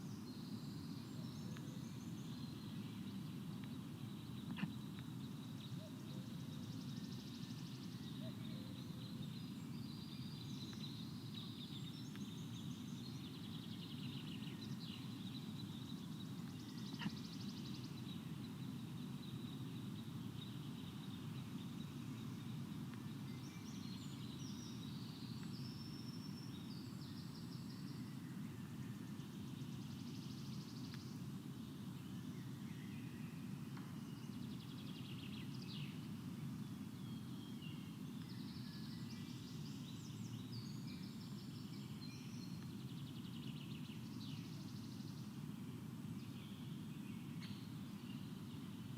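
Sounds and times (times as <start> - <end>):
songbirds singing: 0.0 - 48.9
steady low hiss: 0.0 - 48.9.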